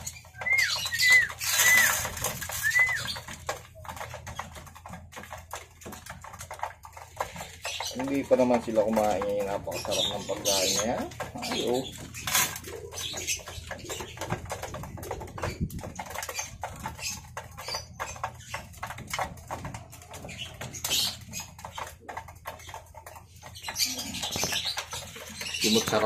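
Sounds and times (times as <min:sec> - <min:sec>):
pigeons pecking grain: 0:00.0 - 0:26.0.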